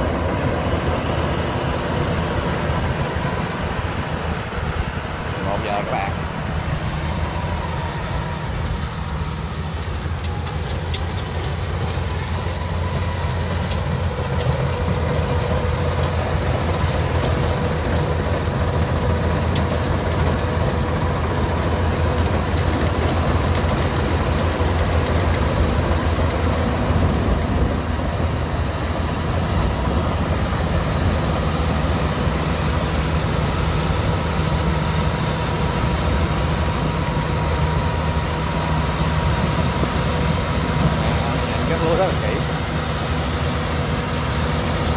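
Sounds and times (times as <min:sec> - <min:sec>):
combine harvester engine droning: 0:00.0 - 0:44.9.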